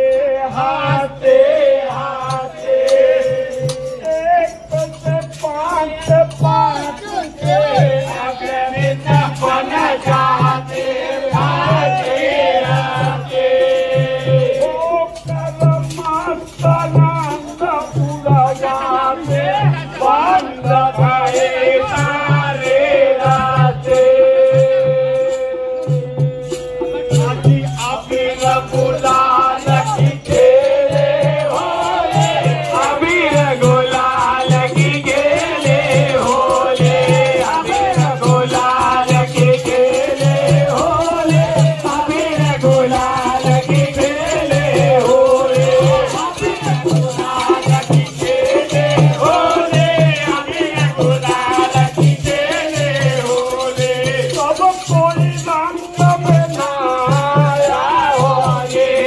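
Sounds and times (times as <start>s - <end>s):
group singing: 0.0s - 59.0s
jingling hand percussion: 0.0s - 59.0s.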